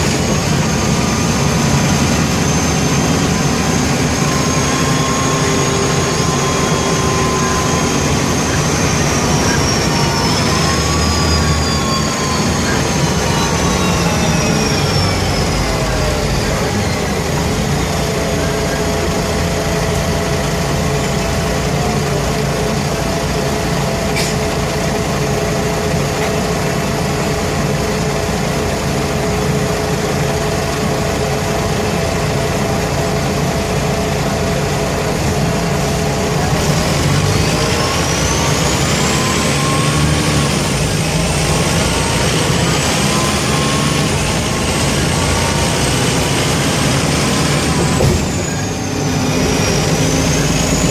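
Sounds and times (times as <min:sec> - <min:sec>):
bus diesel engine running: 0:00.0 - 0:50.9
high whine: 0:00.0 - 0:50.9.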